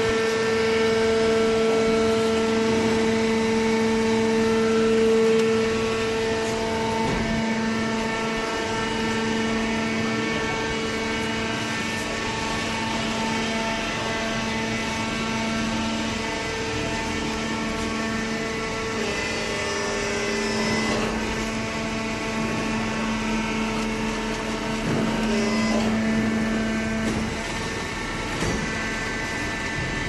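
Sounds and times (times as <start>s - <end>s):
hydraulic unit humming: 0.0s - 30.0s.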